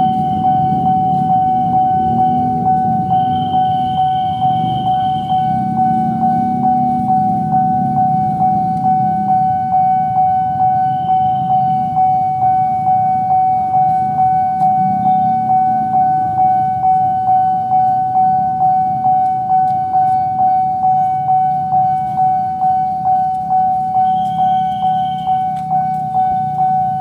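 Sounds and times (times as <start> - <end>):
level crossing bell ringing: 0.0 - 27.0.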